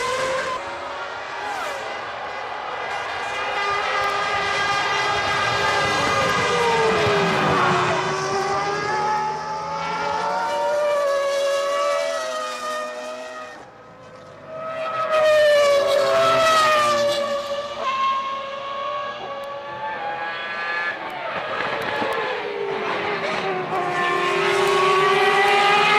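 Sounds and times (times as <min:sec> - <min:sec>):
racing car engines: 0:00.0 - 0:25.9
racing car passing loud: 0:00.0 - 0:25.9.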